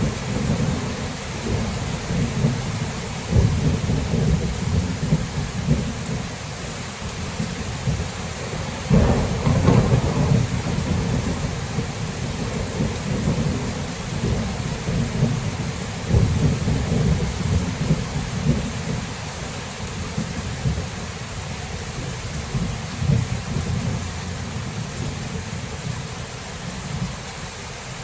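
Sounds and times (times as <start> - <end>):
rolling thunder: 0.0 - 6.4, 7.1 - 19.1, 19.8 - 27.2
steady rain: 0.0 - 28.0.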